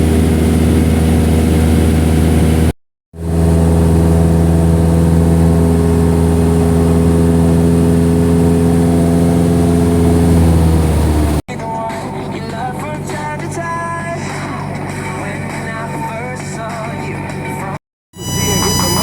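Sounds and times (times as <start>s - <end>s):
light aircraft piston engine droning: 0.0s - 16.0s.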